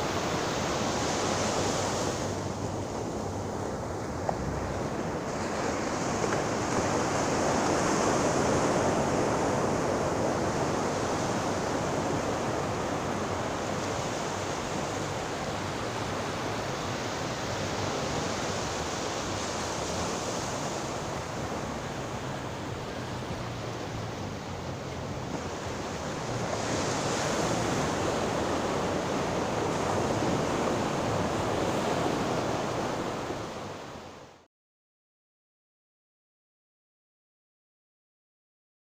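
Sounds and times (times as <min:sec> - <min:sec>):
ocean waves: 0:00.0 - 0:34.5.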